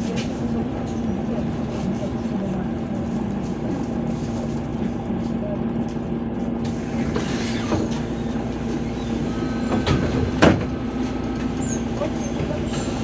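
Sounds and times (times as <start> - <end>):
bus engine humming: 0.0 - 13.0
road rumble and rattles: 0.0 - 13.0.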